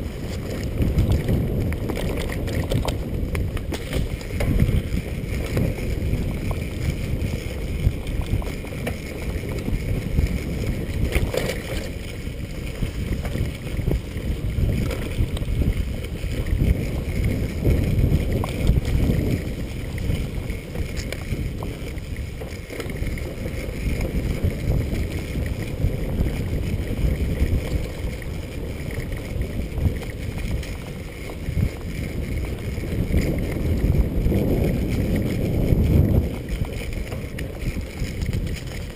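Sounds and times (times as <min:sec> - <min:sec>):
bicycle rattling from jolts: 0:00.0 - 0:38.9
bicycle tyres rumbling on dirt: 0:00.0 - 0:38.9
wind buffeting microphone: 0:00.0 - 0:38.9.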